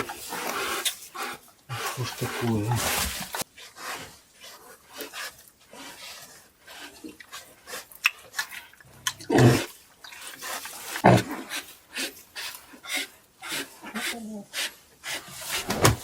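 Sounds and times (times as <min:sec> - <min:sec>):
pigs grunting and squealing: 0:00.0 - 0:03.4, 0:05.7 - 0:15.6.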